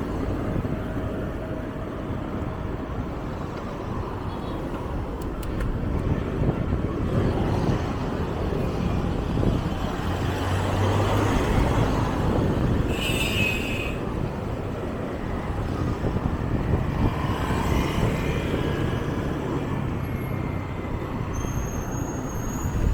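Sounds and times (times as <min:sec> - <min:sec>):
street traffic rumble: 0:00.0 - 0:22.9.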